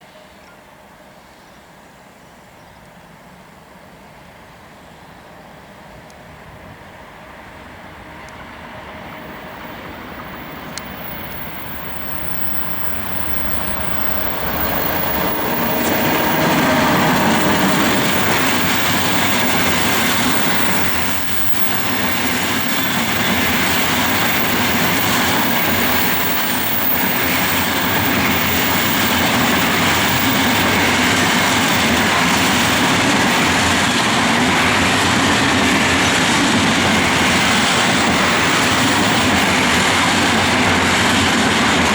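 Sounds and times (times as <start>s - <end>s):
freight train passing: 4.2s - 41.9s.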